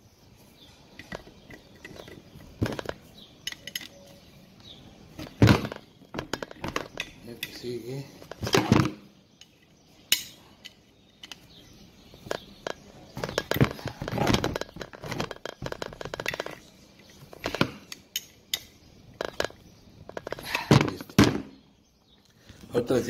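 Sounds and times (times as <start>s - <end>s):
sharp metallic clicks: 0.9s - 8.8s, 9.4s - 21.2s.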